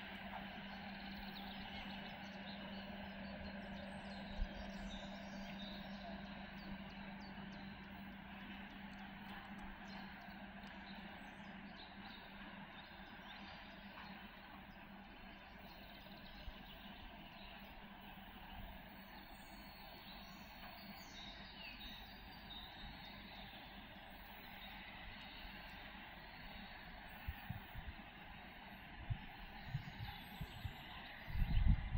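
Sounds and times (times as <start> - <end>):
low hum: 0.0 - 31.9.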